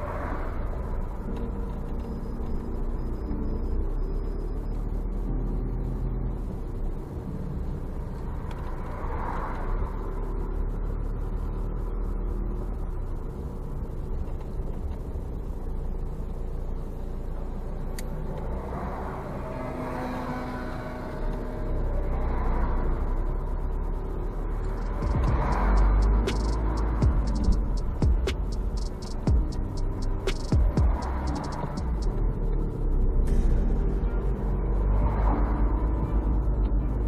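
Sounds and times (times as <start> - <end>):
passing traffic rush: 0.0 - 4.1, 4.7 - 15.1, 17.3 - 37.0
car engine and tyre rumble: 0.0 - 37.0.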